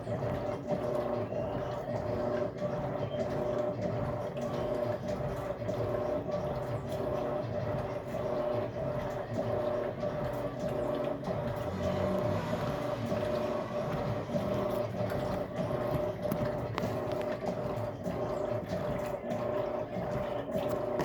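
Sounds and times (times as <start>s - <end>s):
washing machine motor hum: 0.0s - 21.0s
wet laundry churning: 0.0s - 21.0s.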